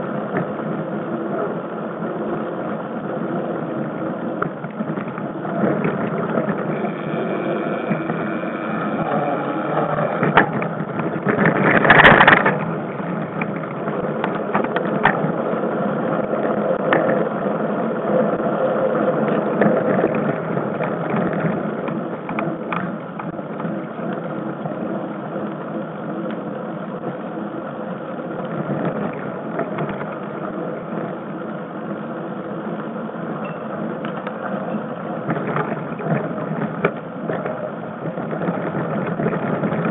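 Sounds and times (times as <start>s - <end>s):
rough rush of noise: 0.0s - 39.9s
tyres rumbling on dirt: 2.0s - 31.5s, 33.8s - 39.9s
bike rattling: 2.0s - 32.2s, 33.4s - 39.9s.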